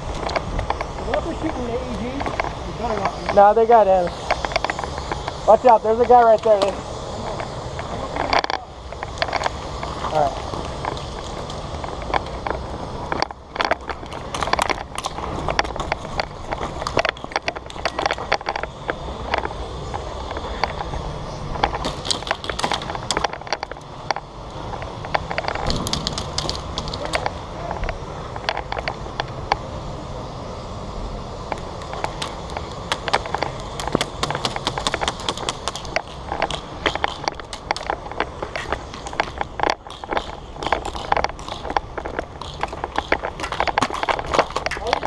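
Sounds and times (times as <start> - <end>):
sharp clicks and rattles: 0.0 - 29.6, 31.4 - 45.0.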